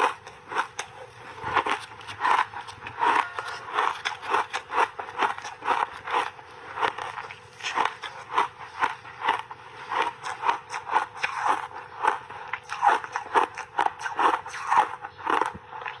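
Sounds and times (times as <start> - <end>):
ice being chewed with crunches: 0.0 - 16.0.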